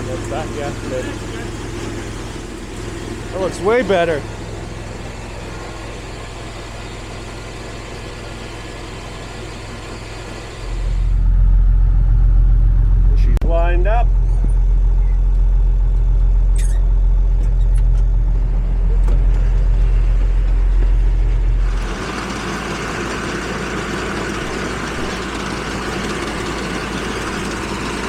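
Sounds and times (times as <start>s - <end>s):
farm vehicle engine idling: 0.0s - 28.0s.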